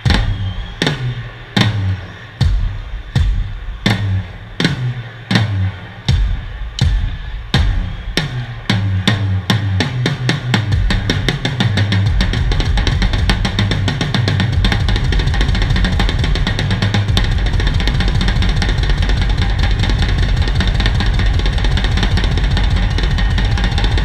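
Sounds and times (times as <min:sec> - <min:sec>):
drum kit solo: 0:00.0 - 0:24.0
rapid bass drum kicks: 0:00.0 - 0:24.0.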